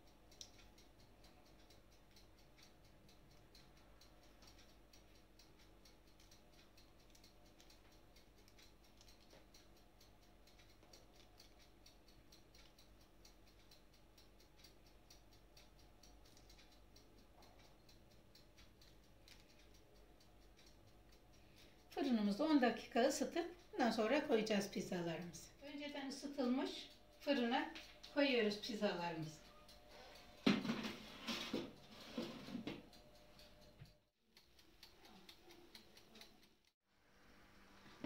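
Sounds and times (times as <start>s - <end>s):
fine steady ticking: 0.0s - 36.8s.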